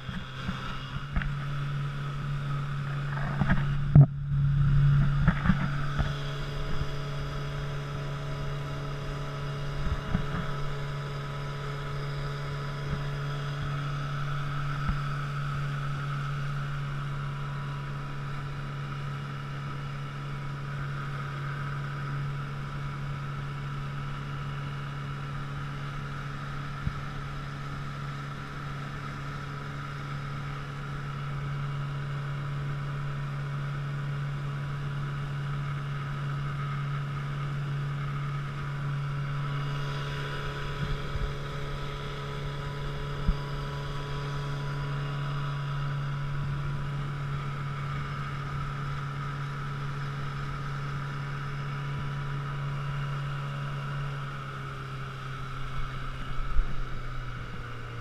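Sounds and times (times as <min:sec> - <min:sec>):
boat motor humming: 0:00.0 - 0:58.0.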